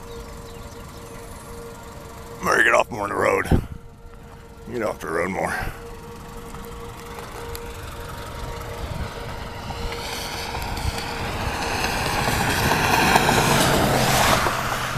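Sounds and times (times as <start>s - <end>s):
road vehicle approaching: 0.0s - 14.9s.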